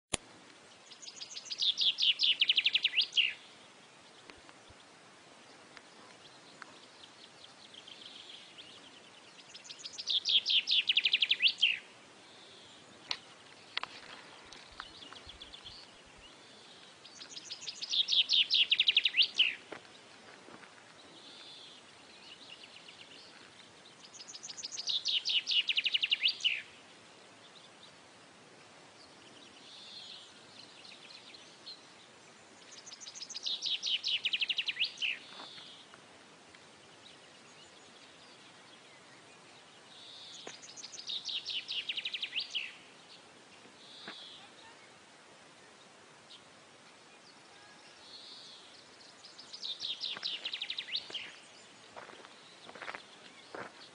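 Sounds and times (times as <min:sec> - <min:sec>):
faint bird chirping: 0:00.5 - 0:53.9.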